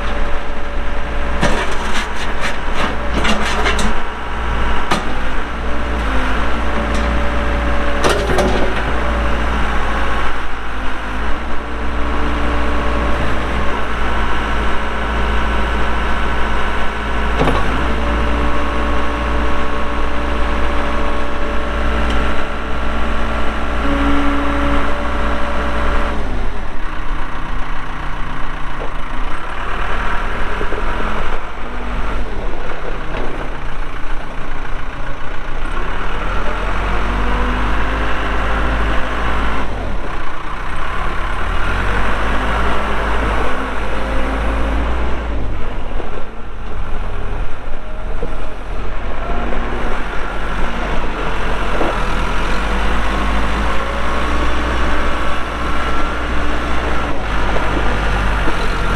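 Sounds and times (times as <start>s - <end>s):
backhoe diesel engine under load: 0.0s - 58.9s.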